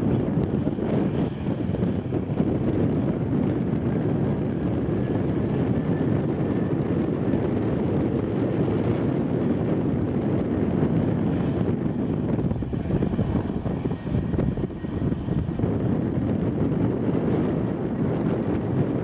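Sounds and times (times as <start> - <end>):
jet engines at taxi thrust: 0.0 - 19.0
wind buffeting the microphone: 0.0 - 19.0.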